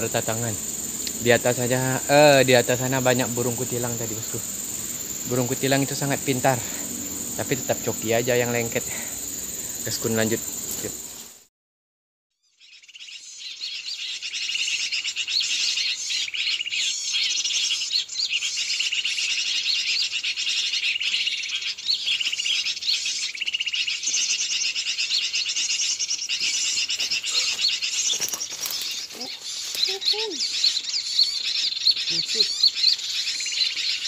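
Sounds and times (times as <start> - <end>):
small birds chirping: 0.0 - 11.4, 12.4 - 34.0.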